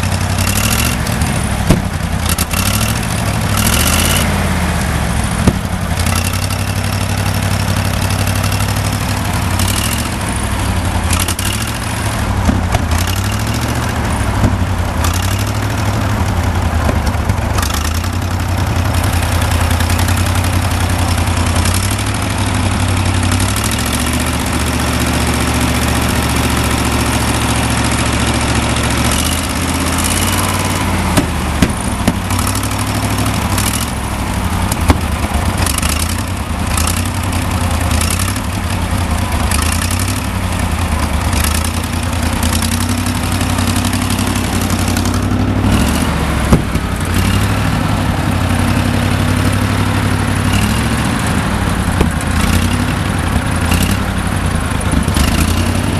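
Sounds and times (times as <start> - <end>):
engine running with pops: 0.0 - 55.9.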